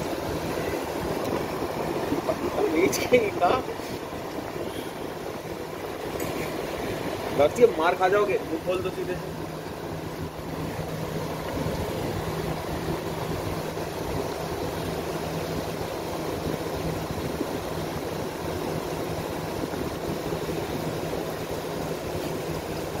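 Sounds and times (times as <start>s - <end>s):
fan humming and rushing: 0.0s - 23.0s.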